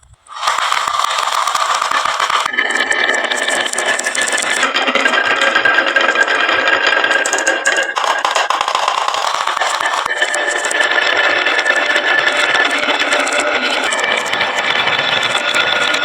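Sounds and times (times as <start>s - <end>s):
marbles rattling down wooden slope: 0.3s - 16.0s.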